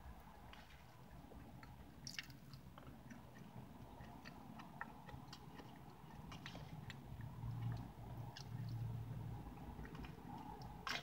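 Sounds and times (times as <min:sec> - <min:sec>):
low steady rumble: 0:00.0 - 0:11.0
chewing mouth clicks and smacks: 0:00.5 - 0:11.0.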